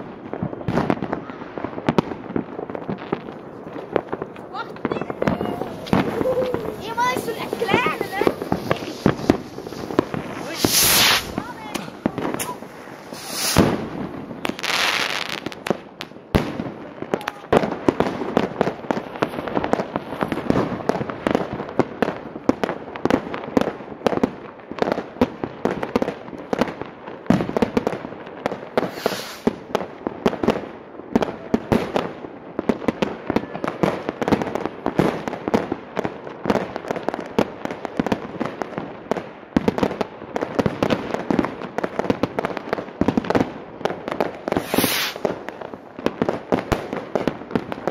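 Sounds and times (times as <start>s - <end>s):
dense crackling pops: 0.0s - 47.9s.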